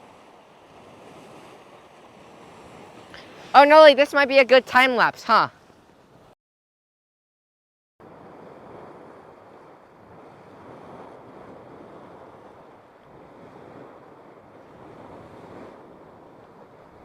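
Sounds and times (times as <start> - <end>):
hot spring churning and bubbling: 0.0 - 6.1, 8.0 - 17.0.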